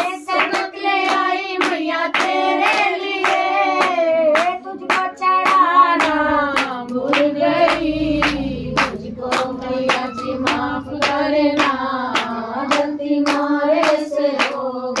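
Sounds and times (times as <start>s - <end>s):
rhythmic hand clapping: 0.0s - 15.0s.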